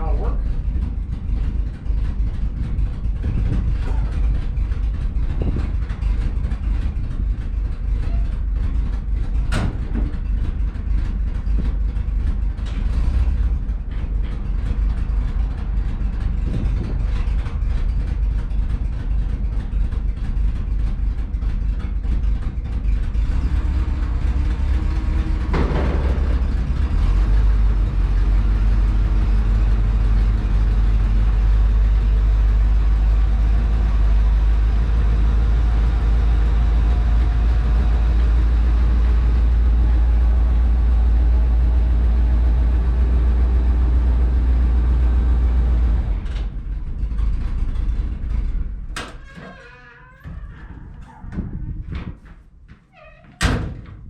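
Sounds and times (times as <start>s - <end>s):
truck engine rumble: 0.0s - 54.0s.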